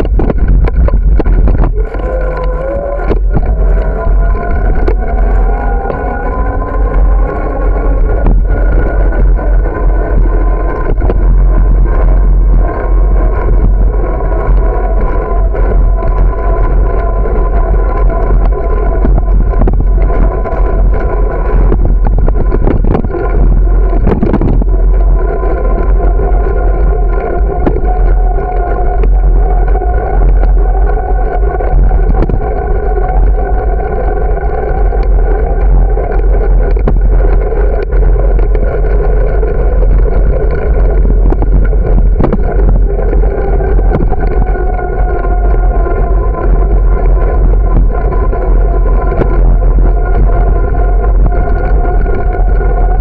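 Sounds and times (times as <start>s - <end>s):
bicycle whine: 0.0s - 53.0s
wheels knocking on bumps: 0.0s - 53.0s
wind and road vibration rumble: 0.0s - 53.0s.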